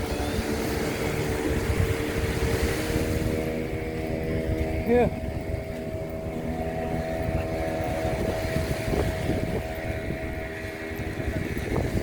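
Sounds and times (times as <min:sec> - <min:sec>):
engine droning: 0:00.0 - 0:12.0
wind buffeting microphone: 0:00.0 - 0:12.0.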